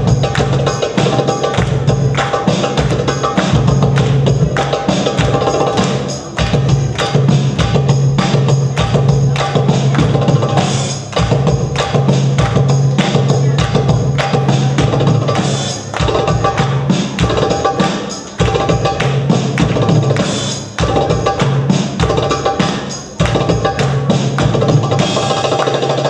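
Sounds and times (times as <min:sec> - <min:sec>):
belly dance music: 0:00.0 - 0:26.0.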